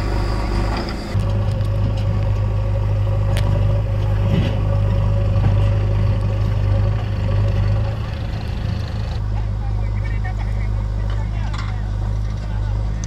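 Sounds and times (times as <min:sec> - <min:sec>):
diesel engines droning: 0:00.0 - 0:13.0.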